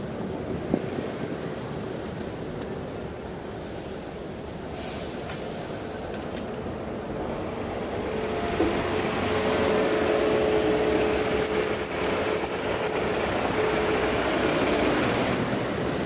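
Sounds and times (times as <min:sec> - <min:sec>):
heavy vehicle humming: 0:00.0 - 0:16.0
street noise: 0:00.0 - 0:16.0.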